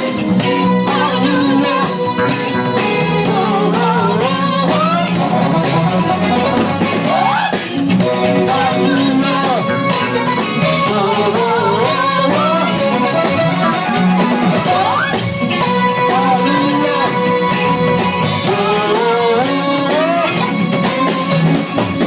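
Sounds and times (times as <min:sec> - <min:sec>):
funk band playing: 0:00.0 - 0:22.0
person singing: 0:00.0 - 0:22.0.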